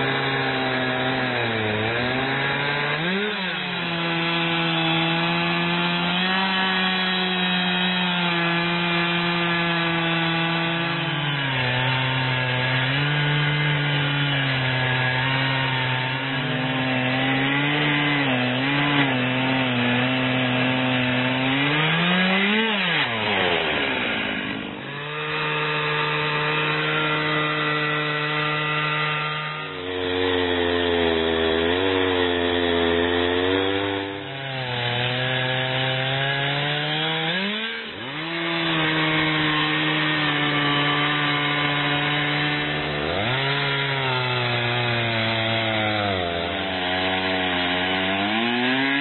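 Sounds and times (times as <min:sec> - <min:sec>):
chainsaw cutting log: 0:00.0 - 0:49.0.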